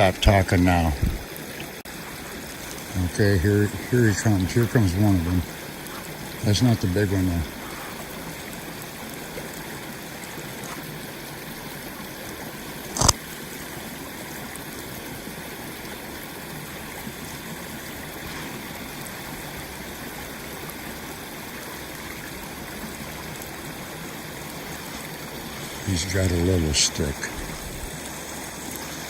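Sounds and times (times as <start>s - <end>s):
water trickling: 0.0s - 29.0s.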